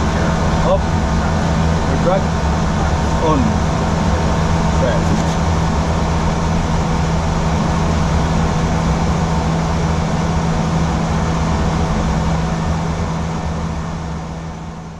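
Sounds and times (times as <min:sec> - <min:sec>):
constant low hum: 0:00.0 - 0:14.9.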